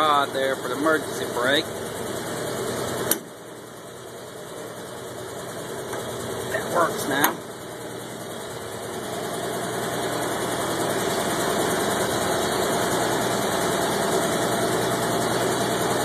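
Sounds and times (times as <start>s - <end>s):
jeep engine idling: 0.0s - 16.0s.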